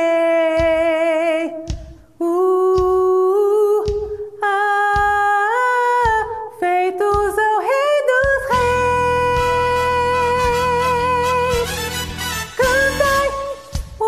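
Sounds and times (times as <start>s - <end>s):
woman singing soprano: 0.0s - 11.7s, 12.5s - 14.0s.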